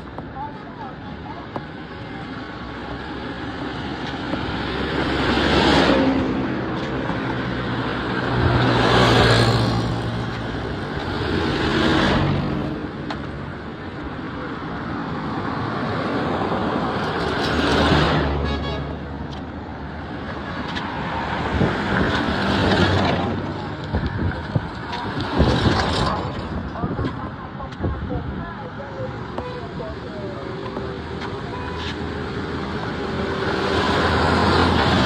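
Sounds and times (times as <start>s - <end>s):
vehicles driving past: 0.0s - 35.0s.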